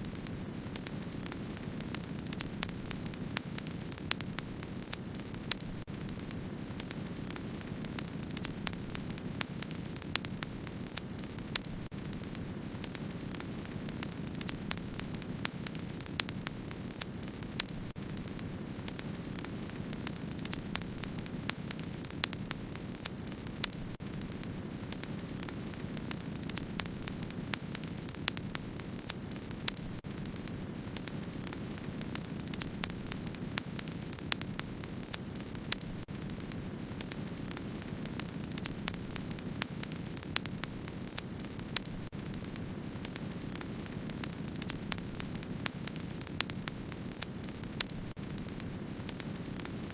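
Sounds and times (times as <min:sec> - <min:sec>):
campfire crackles and pops: 0:00.0 - 0:49.9
low rush of burning: 0:00.0 - 0:49.9.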